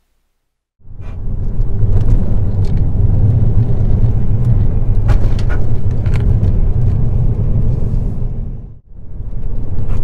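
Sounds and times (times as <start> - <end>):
car cabin road rumble: 0.8 - 10.0.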